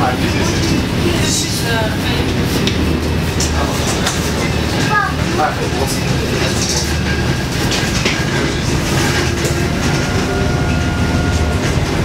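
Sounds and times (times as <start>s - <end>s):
bus body rattling and knocking: 0.0s - 12.0s
bus engine running: 0.0s - 12.0s.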